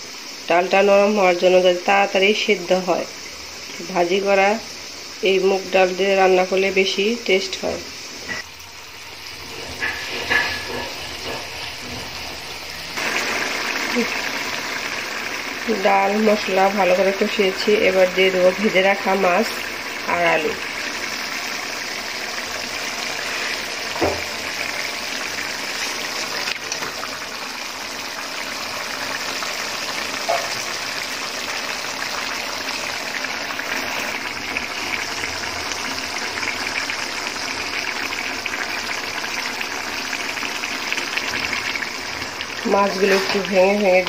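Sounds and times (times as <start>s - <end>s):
pot hissing on stove: 0.0s - 44.0s.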